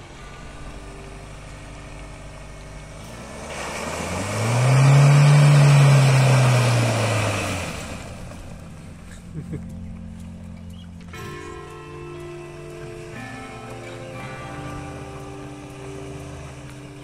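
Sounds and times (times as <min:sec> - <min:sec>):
tyres churning through muddy water: 0:00.0 - 0:09.8, 0:12.6 - 0:17.0
vehicle engine revving: 0:00.0 - 0:17.0.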